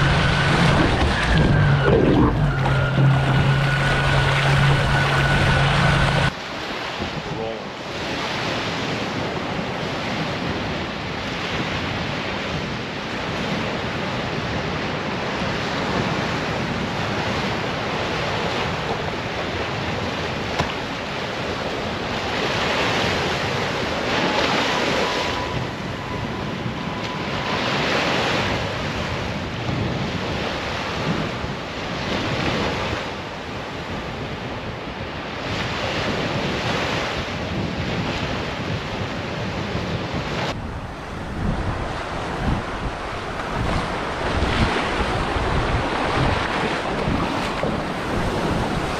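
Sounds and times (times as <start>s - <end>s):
ocean surf on beach: 0.0s - 48.9s
wind buffeting microphone: 0.0s - 48.9s.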